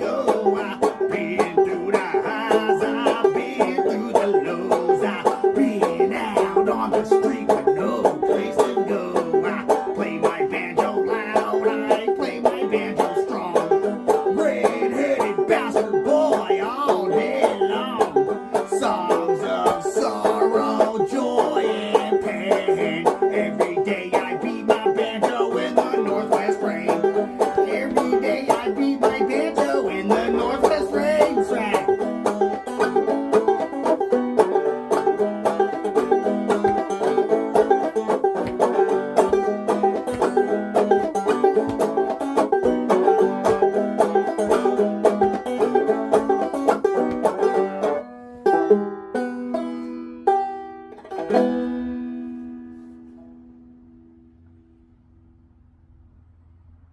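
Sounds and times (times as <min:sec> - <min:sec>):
banjo playing plucked notes: 0:00.0 - 0:55.1.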